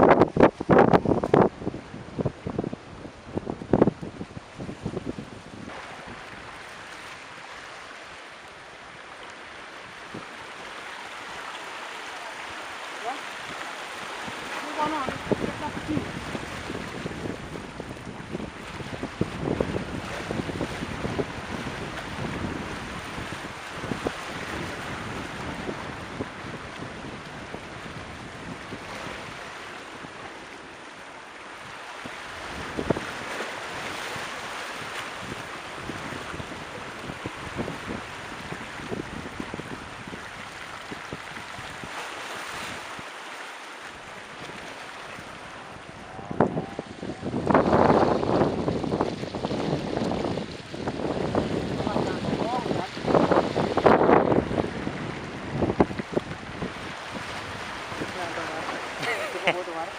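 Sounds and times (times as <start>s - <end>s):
wind buffeting microphone: 0.0s - 11.5s, 12.4s - 43.1s, 43.8s - 59.2s
surf washing over rocks: 0.0s - 59.9s.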